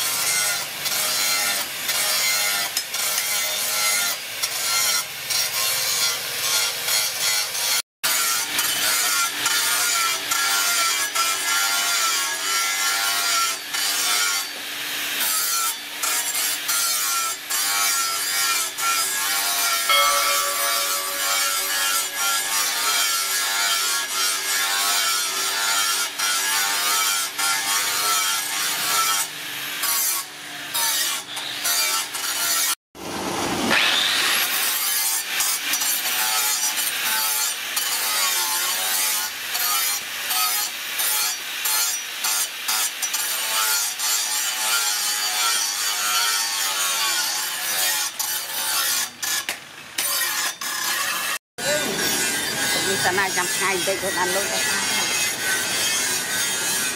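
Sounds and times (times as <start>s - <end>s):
angle grinder sanding metal: 0.0s - 32.8s, 33.8s - 56.9s.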